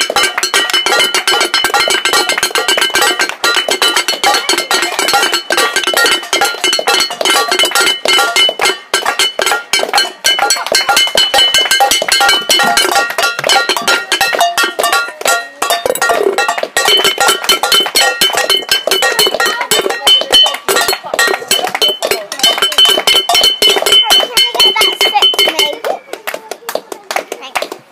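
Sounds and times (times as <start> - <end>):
wooden spoon striking metal pan: 0.0 - 25.9.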